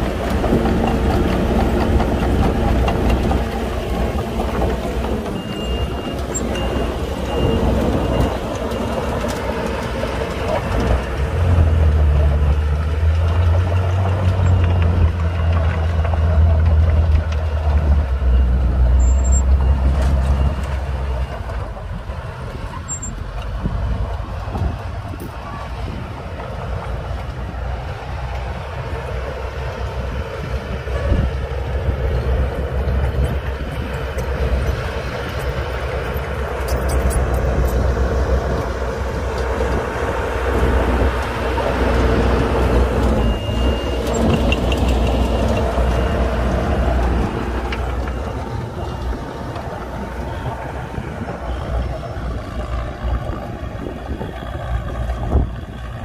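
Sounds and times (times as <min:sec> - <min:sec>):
bulldozer diesel engine under load: 0:00.0 - 0:56.0
truck engine running: 0:00.0 - 0:56.0.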